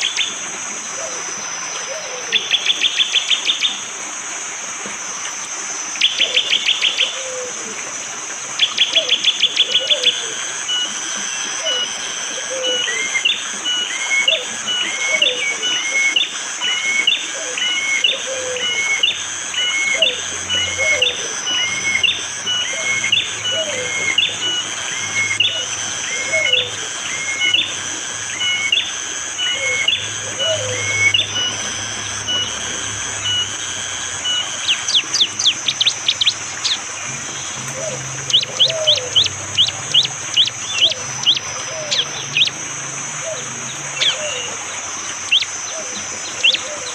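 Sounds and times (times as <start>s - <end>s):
high insect buzz: 0.0s - 46.9s
low bird calls: 8.5s - 46.9s.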